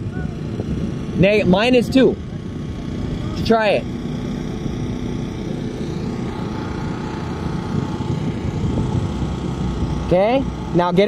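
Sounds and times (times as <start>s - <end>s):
subwoofer bass rumble: 0.0s - 11.0s.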